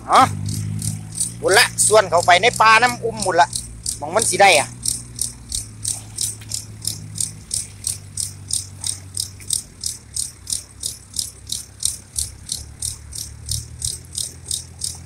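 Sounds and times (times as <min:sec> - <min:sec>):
high rhythmic rattling tick: 0:00.0 - 0:15.0
pump and tractor engine hum: 0:00.0 - 0:15.0.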